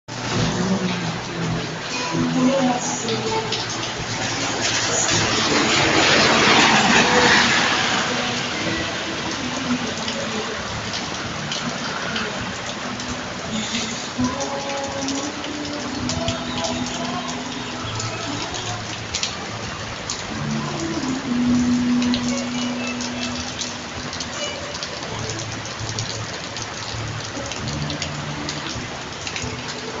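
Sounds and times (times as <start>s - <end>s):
rain falling: 0.1s - 30.0s.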